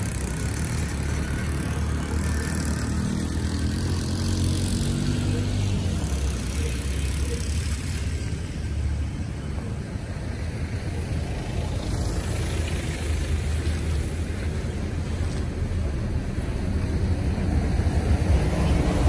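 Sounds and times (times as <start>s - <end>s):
engine hum: 0.0s - 19.0s
road traffic rumble: 0.0s - 19.0s.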